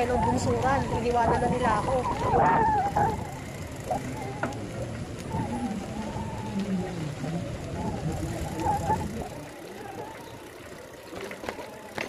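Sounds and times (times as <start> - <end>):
bike rolling noise: 0.0 - 12.0
distant wavering voice: 0.0 - 12.0
wind: 0.0 - 12.0.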